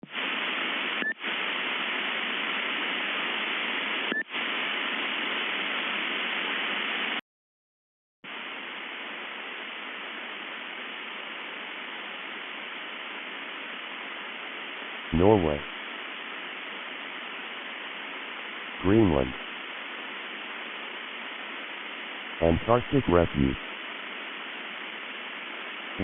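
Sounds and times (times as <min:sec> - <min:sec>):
broadcast static hiss: 0:00.0 - 0:07.2, 0:08.2 - 0:26.0.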